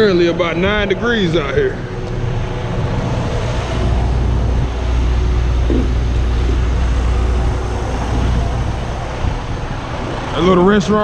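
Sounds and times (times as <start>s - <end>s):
diesel truck engine idling: 0.0s - 11.0s
wind noise on microphone: 1.4s - 10.3s.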